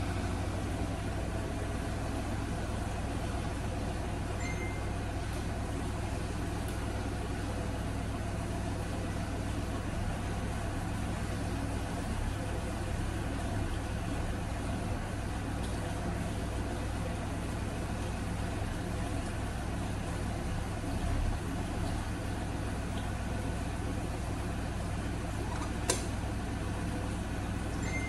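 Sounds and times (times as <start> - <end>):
stove burner rumble and hiss: 0.0 - 28.0.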